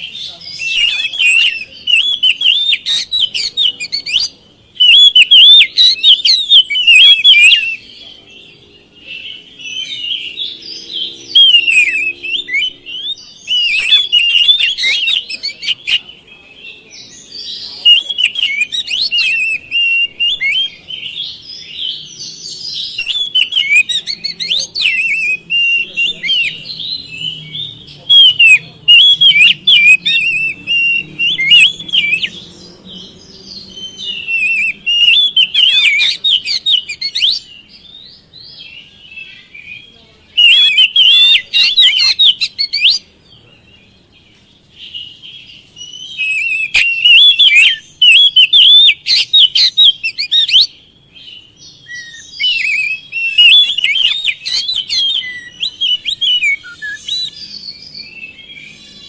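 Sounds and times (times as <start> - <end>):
bird singing chirps and whistles: 0.0 - 59.0.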